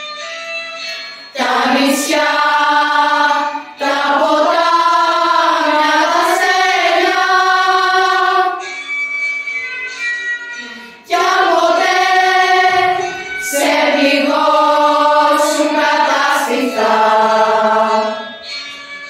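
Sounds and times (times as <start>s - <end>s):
light instrumental backing: 0.0s - 19.0s
voices singing held notes: 0.9s - 8.8s, 10.6s - 18.4s.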